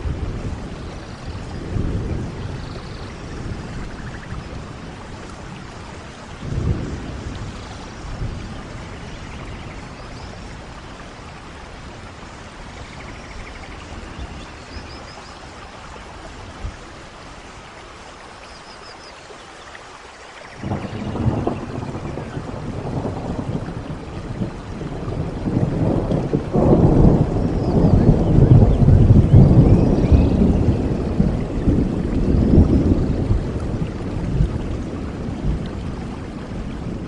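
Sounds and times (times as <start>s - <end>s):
thunder rumbling: 0.0s - 15.1s, 20.6s - 37.0s
steady rain: 0.0s - 37.0s.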